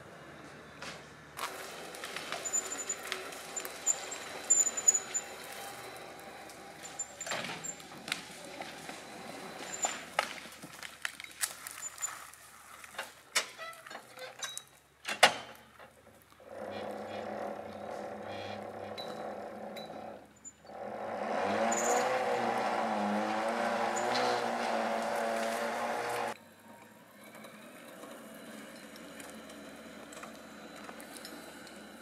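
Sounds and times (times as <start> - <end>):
logging rig engine running: 0.0 - 13.4, 16.1 - 32.0.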